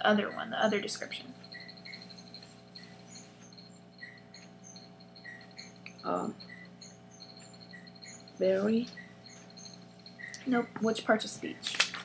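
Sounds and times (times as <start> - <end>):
low electrical hum: 0.0 - 12.0
faint high-pitched chirps: 1.0 - 10.7.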